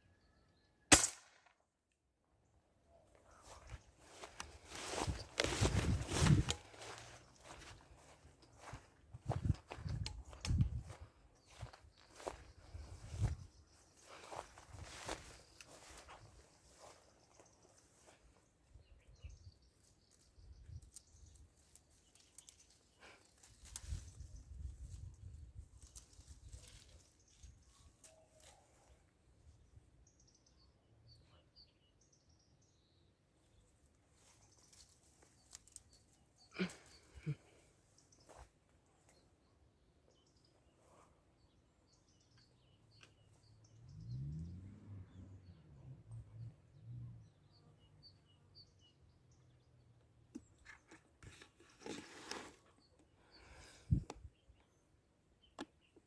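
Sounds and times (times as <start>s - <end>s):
small birds chirping: 2.8s - 44.5s, 45.1s - 56.0s.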